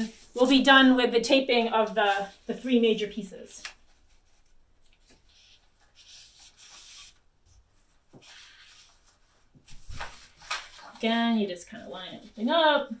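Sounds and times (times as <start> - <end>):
paper sheets rustling: 0.0 - 13.0.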